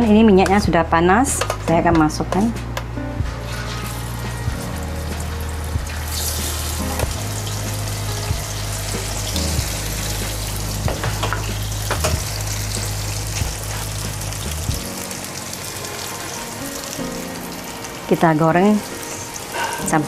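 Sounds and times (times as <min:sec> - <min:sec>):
eggplant frying in hot oil: 0:03.5 - 0:20.0.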